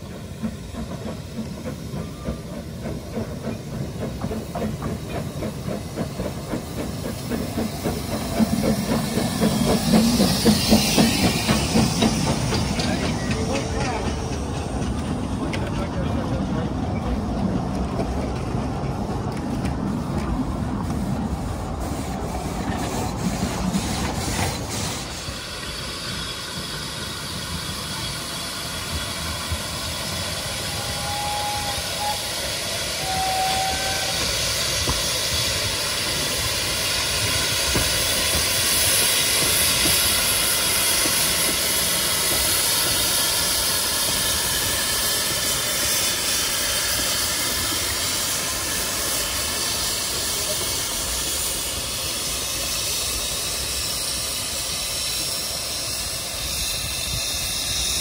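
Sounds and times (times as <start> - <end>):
steam hissing from locomotive: 0.0 - 17.2, 19.0 - 58.0
train rumbling on rails: 0.0 - 58.0.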